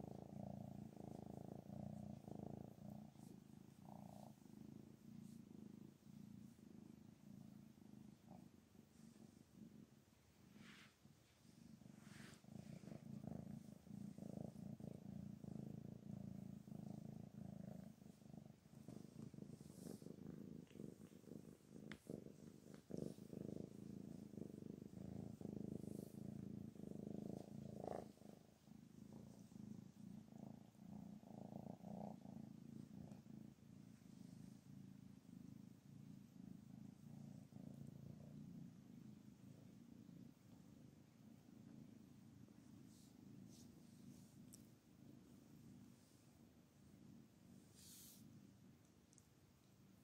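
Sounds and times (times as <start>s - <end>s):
cat purring: 0.0s - 50.0s.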